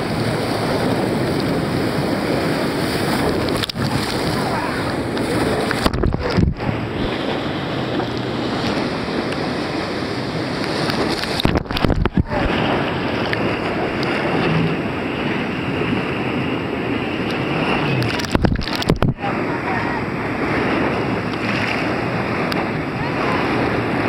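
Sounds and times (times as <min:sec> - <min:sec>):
waves splashing over microphone: 0:00.0 - 0:24.0
whitewater rushing and crashing: 0:00.0 - 0:24.0.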